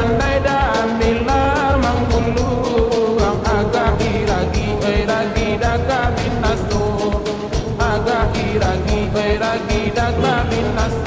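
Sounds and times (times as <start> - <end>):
song with steady beat: 0.0 - 11.0.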